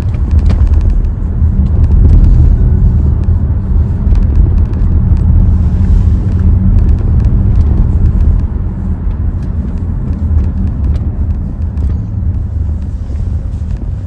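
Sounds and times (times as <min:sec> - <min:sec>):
car engine and exhaust drone: 0:00.0 - 0:14.0
road rumble: 0:00.0 - 0:14.0.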